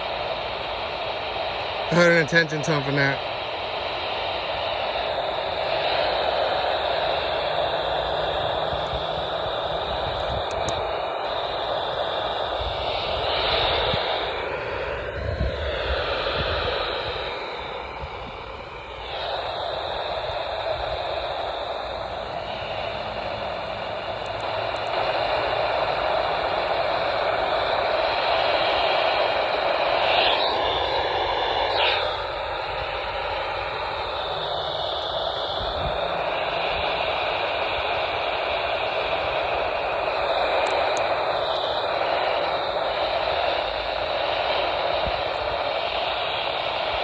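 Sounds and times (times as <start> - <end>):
radio static hissing: 0.0 - 47.0.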